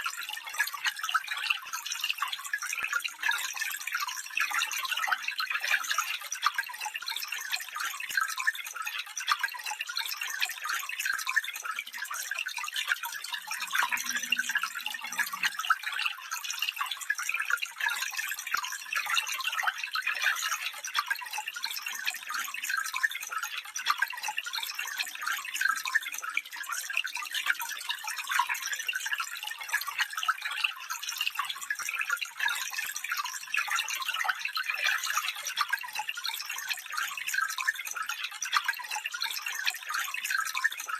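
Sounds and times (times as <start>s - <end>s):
stream water trickling over stones: 0.0s - 40.9s.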